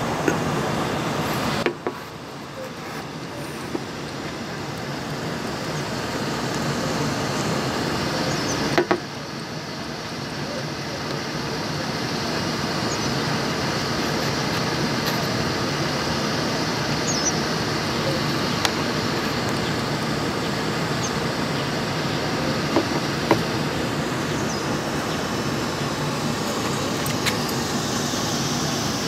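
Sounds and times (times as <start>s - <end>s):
steady vehicle noise: 0.0s - 29.0s.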